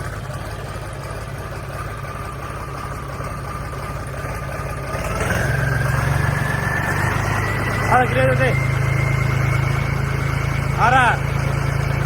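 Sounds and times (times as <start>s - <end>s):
tractor engine idling: 0.0s - 12.0s
engine whine rising: 1.0s - 12.0s.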